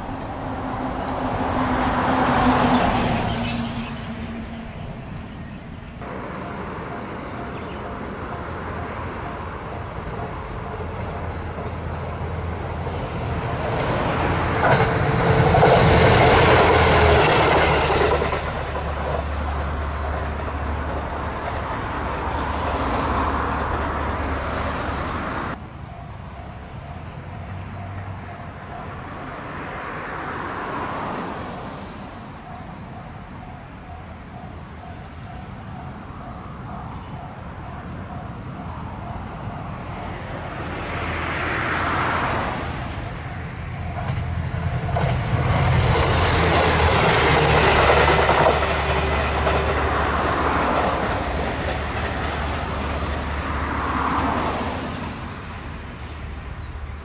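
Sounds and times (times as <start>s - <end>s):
wheels clattering on rail: 0.0s - 25.6s, 30.3s - 55.6s.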